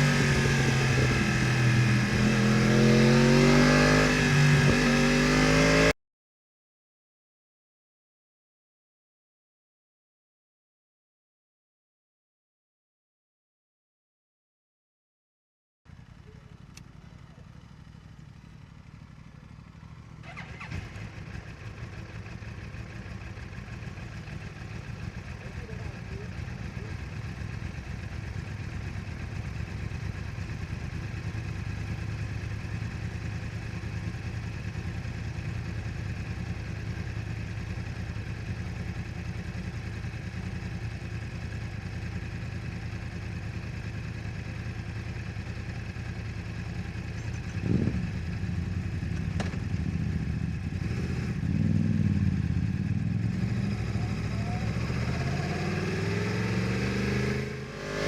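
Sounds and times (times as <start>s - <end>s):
motorcycle engine idling and revving: 0.0s - 6.0s, 15.9s - 58.0s.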